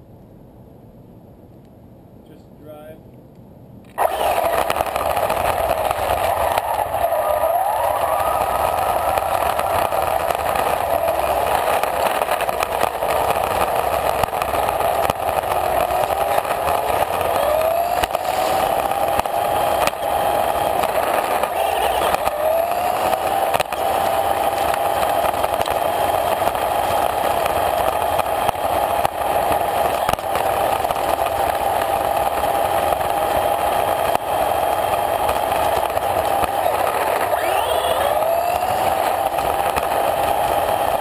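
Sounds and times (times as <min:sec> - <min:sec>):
toy car motor whining: 0:03.9 - 0:41.0.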